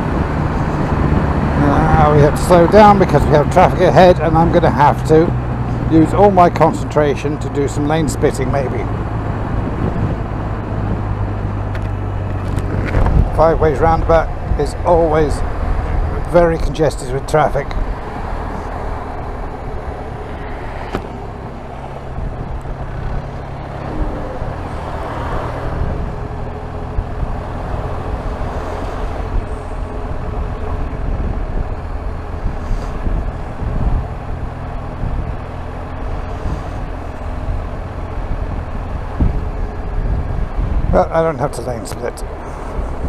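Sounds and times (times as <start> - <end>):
road noise: 0.0 - 43.0
wind noise: 0.0 - 43.0.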